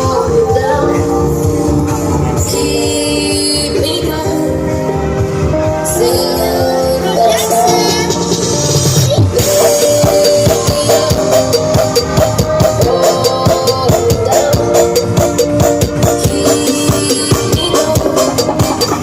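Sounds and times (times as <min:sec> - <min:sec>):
loud music with fast drum beat: 0:00.0 - 0:19.0.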